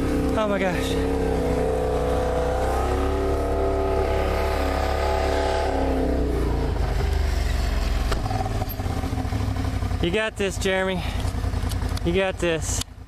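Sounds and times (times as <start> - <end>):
car engine running at raised revs: 0.0 - 13.0.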